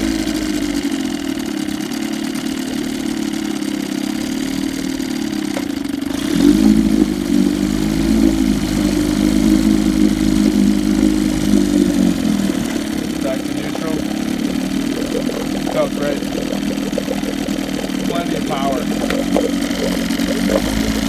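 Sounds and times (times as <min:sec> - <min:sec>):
outboard motor running: 0:00.0 - 0:21.0
propeller churning water: 0:00.0 - 0:21.0.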